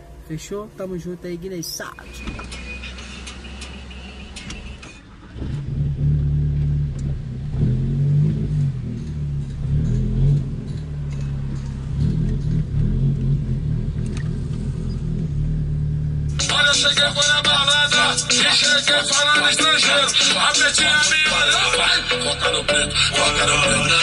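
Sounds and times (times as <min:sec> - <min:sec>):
car engine revving: 0:02.0 - 0:24.0.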